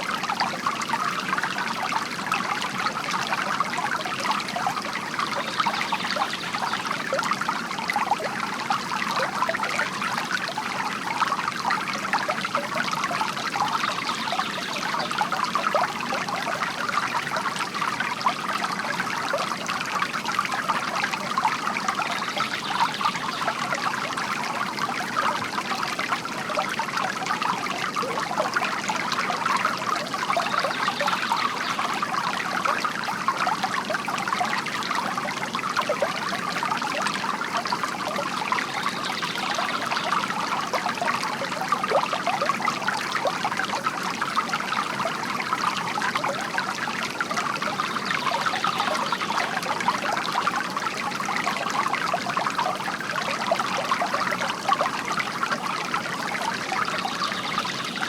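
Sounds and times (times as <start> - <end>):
fountain water trickling: 0.0 - 58.0.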